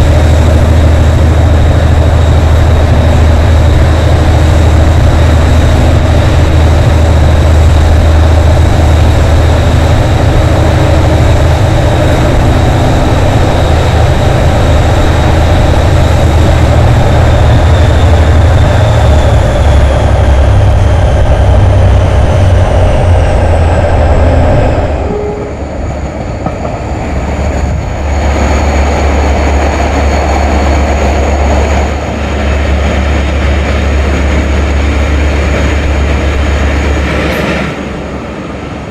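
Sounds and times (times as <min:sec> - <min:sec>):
diesel locomotive engine running hard: 0:00.0 - 0:38.9
high engine whine: 0:00.0 - 0:38.9.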